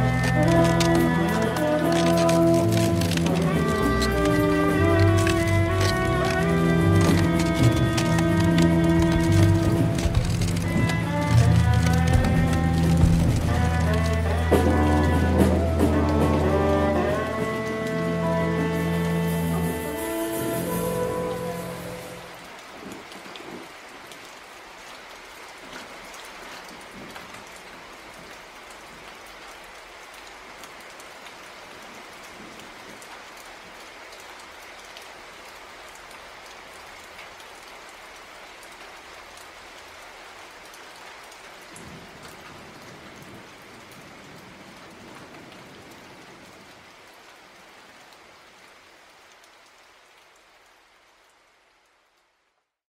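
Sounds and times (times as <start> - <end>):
steady rain falling: 0.0 - 52.8.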